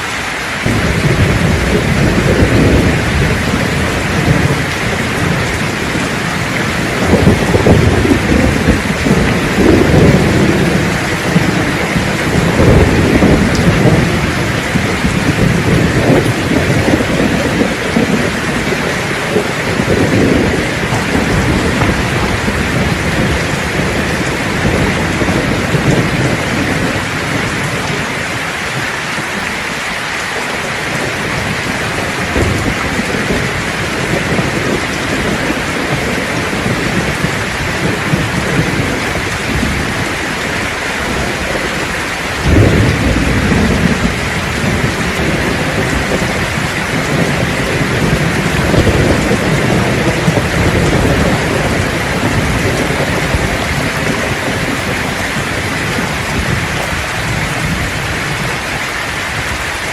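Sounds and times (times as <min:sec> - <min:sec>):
heavy rain hiss: 0:00.0 - 0:59.9
sharp thunderclap: 0:00.6 - 0:28.0, 0:30.9 - 0:58.6
rolling thunder: 0:00.6 - 0:59.9.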